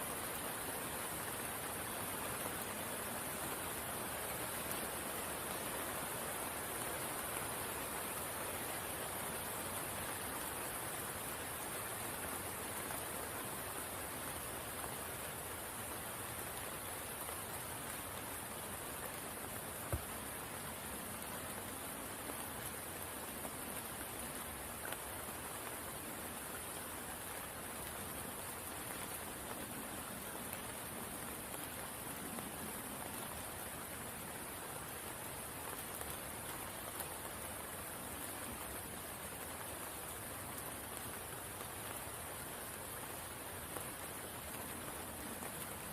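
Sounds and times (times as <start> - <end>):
rain falling on a pool: 0.0 - 45.9.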